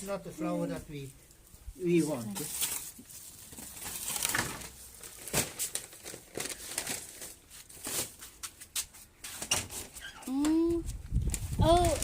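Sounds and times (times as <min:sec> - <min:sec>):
leaves rustling and crackling: 0:00.0 - 0:08.9, 0:09.7 - 0:12.0.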